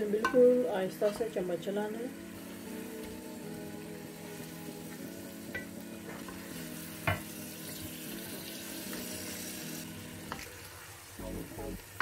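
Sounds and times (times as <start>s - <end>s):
meatballs sizzling in a pot: 0.0s - 12.0s.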